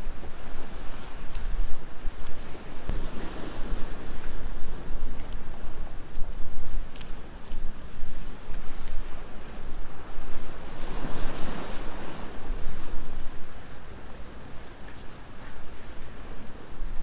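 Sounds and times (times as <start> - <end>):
sea waves washing in: 0.0 - 6.1, 9.2 - 16.8
wind rumble on microphone: 0.0 - 17.0.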